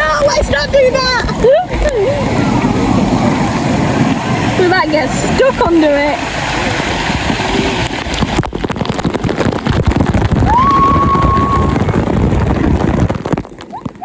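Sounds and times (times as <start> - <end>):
water pouring and splashing: 0.0 - 14.0.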